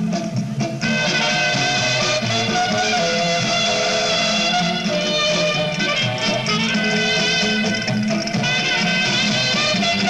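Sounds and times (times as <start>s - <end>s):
lively music with bass line: 0.0s - 10.0s.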